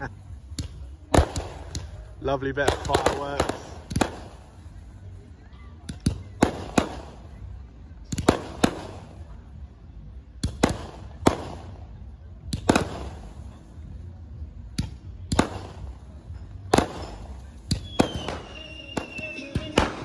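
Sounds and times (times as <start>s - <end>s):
fireworks bursting: 0.0s - 5.2s, 5.9s - 9.5s, 10.4s - 14.0s, 14.7s - 20.0s.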